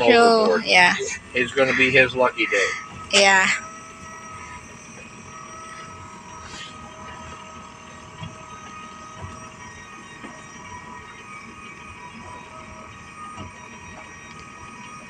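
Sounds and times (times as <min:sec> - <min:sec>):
boat motor humming: 0:00.0 - 0:15.0
thin steady whine: 0:00.0 - 0:15.0.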